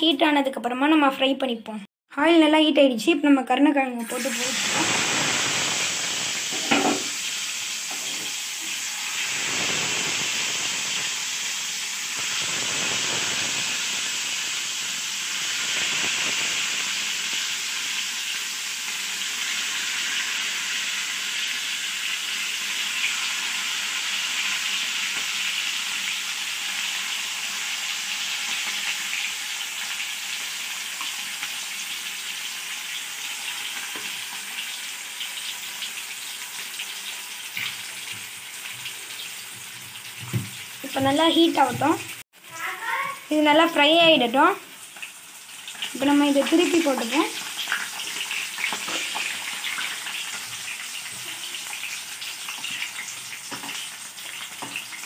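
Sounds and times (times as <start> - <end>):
food sizzling in hot oil: 3.9 - 55.0.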